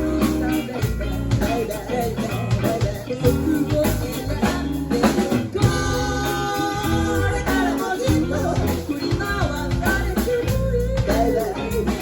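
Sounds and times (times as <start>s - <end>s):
band music with guitar and drums: 0.0s - 12.0s.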